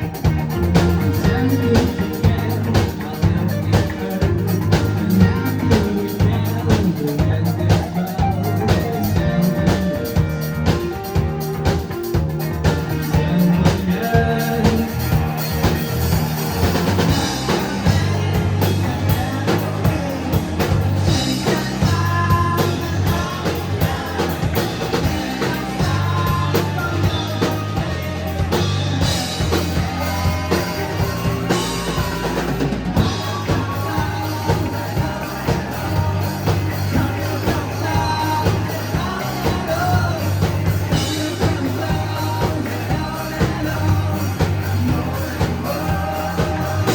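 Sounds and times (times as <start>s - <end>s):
drum kit beat: 0.0s - 46.9s
lead vocal singing: 0.0s - 46.9s
live rock band playing: 0.0s - 46.9s.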